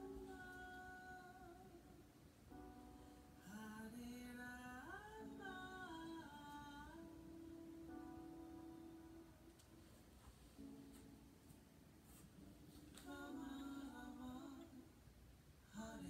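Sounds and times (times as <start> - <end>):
faint wordless humming: 0.0 - 16.0.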